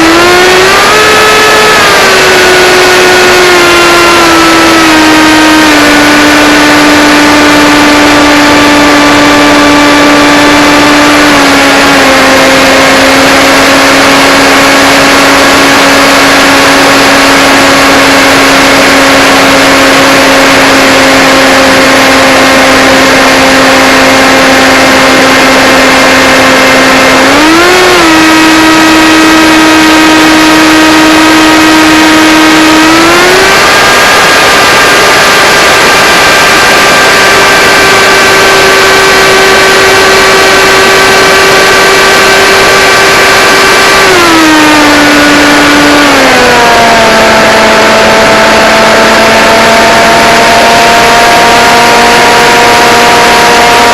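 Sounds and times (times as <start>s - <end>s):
drone propellers whining: 0.0s - 53.9s.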